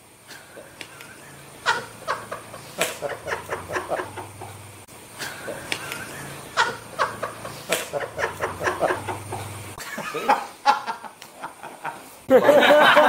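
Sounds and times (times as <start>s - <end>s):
people laughing: 1.1s - 4.6s, 5.3s - 13.0s.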